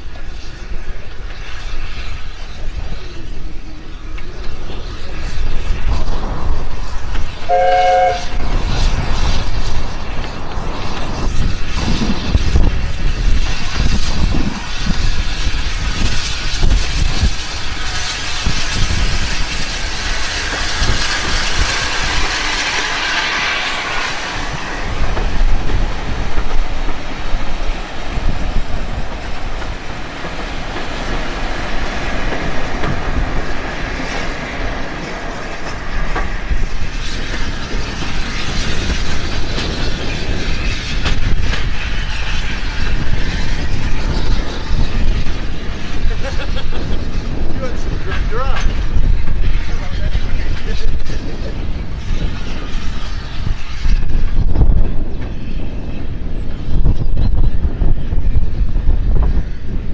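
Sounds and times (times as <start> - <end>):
steam locomotive passing: 0.0 - 59.9.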